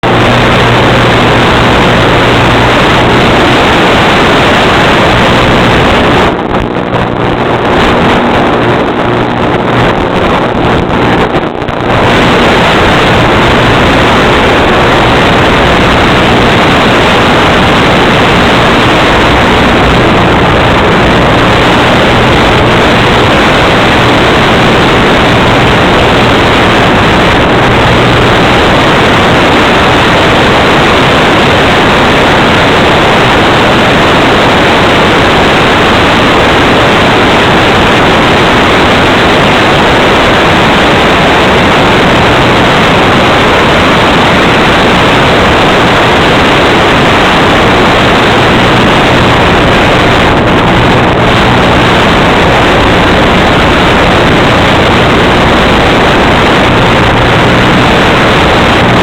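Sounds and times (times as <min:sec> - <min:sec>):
distorted wind rush: 0:00.0 - 0:59.0
motor hum: 0:00.0 - 0:59.0.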